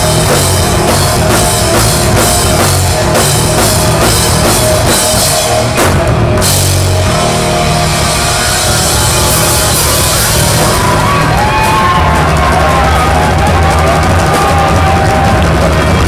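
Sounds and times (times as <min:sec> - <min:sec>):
rock band playing loud: 0:00.0 - 0:16.0.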